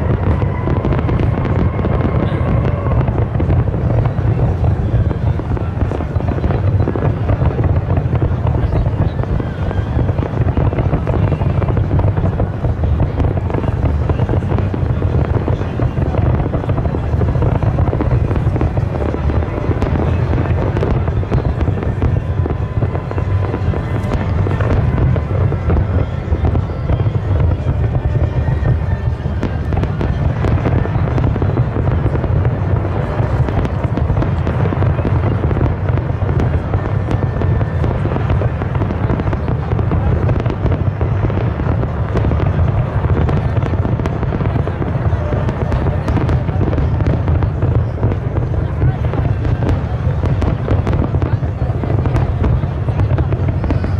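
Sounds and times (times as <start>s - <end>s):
deep firework booms: 0.0s - 53.9s
firework cracks and crackles: 0.0s - 53.9s.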